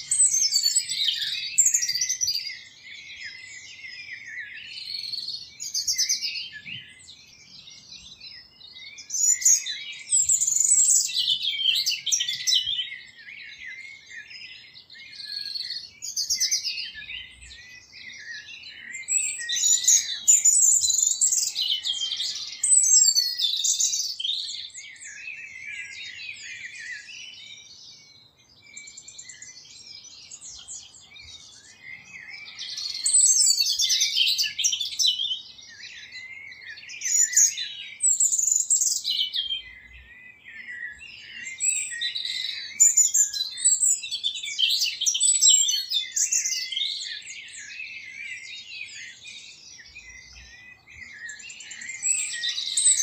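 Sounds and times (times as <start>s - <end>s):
small birds chirping and singing: 0.0s - 53.0s.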